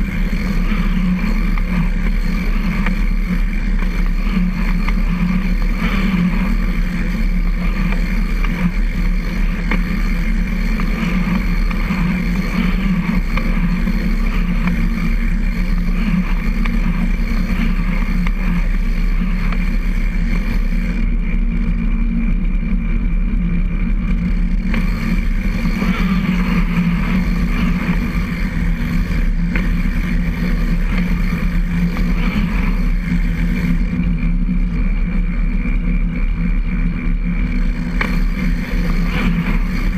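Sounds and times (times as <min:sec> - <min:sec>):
trike tyres rolling on concrete: 0:00.0 - 0:39.9.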